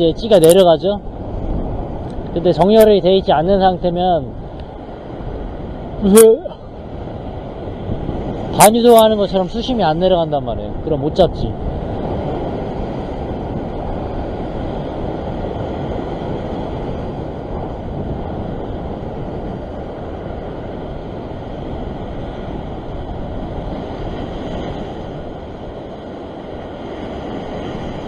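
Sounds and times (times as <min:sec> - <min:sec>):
ocean surf washing over rocks: 0:00.0 - 0:28.0
wind rumbling on microphone: 0:00.0 - 0:28.0.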